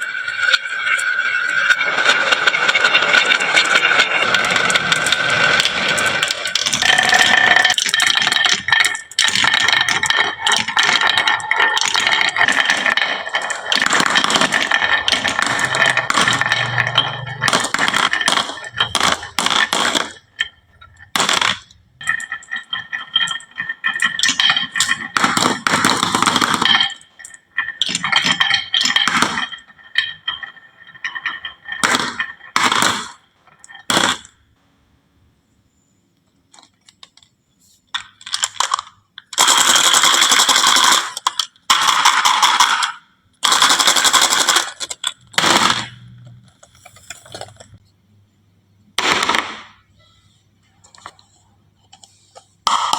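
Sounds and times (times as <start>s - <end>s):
marbles clattering down a marble run: 0.0s - 34.5s, 38.0s - 47.8s.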